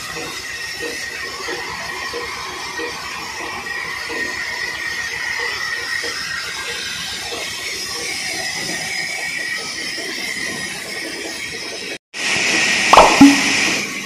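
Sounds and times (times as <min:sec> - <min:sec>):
sawmill machinery whining: 0:00.0 - 0:12.0.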